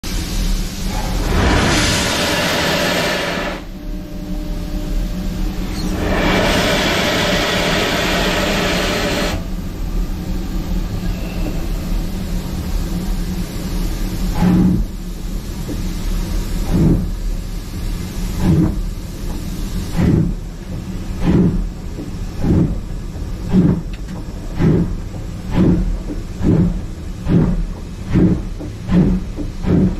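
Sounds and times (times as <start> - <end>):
steam hissing: 0.0 - 29.9
steam locomotive exhaust beats: 0.0 - 29.9.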